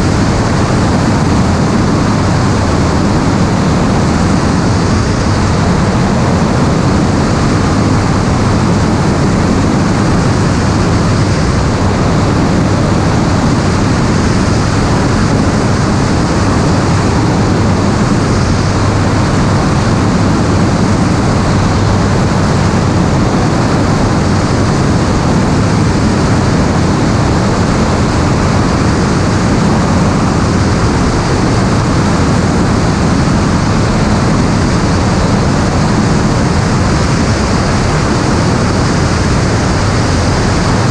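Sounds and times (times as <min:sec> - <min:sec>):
aircraft cabin engine noise: 0:00.0 - 0:40.9.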